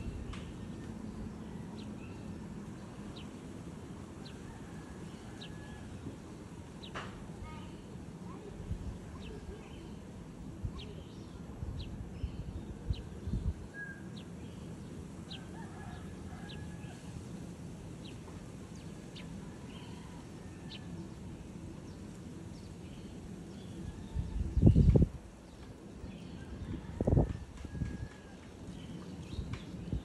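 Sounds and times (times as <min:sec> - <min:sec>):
sparrows chirping: 0:00.0 - 0:27.3, 0:28.3 - 0:30.0.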